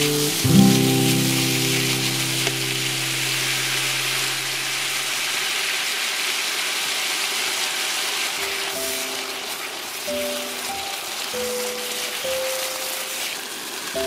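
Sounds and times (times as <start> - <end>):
meat and onion sizzling in a wok: 0.0 - 14.0.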